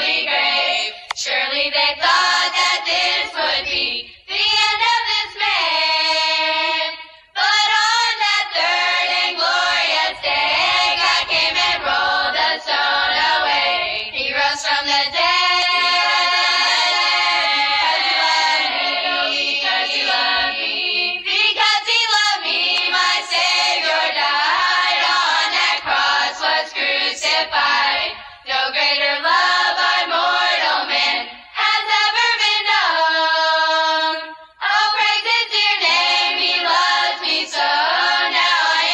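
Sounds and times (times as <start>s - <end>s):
girls singing in harmony: 0.0s - 38.9s.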